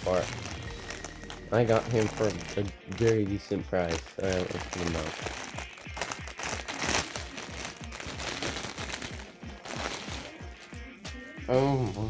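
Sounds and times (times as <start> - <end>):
plastic packaging crinkling: 0.0 - 11.1
background music: 0.0 - 12.0.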